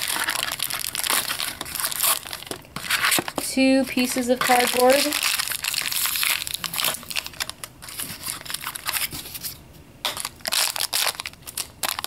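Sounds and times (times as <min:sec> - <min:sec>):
foil packet crinkling: 0:00.0 - 0:12.0.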